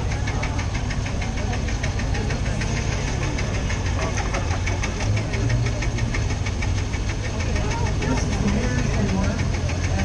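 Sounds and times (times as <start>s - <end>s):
old car engine chugging: 0.0s - 10.0s.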